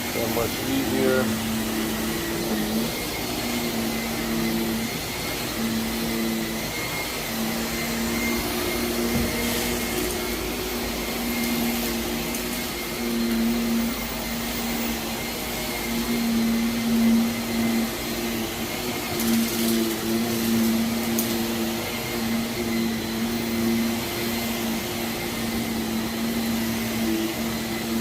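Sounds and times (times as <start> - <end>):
vacuum cleaner on carpet: 0.0 - 28.0.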